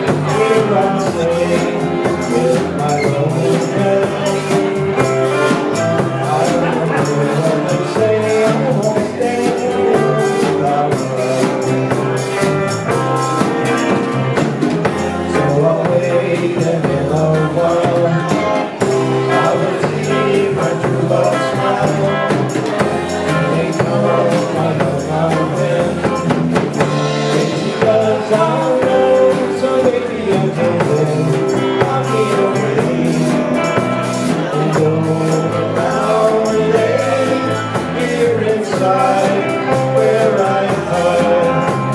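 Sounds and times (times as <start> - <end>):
live rock and roll band: 0.0 - 41.9.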